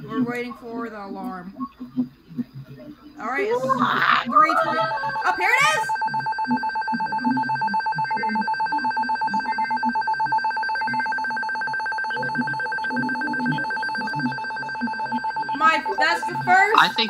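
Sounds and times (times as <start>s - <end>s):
pulsing electronic alarm beep: 3.2s - 17.0s.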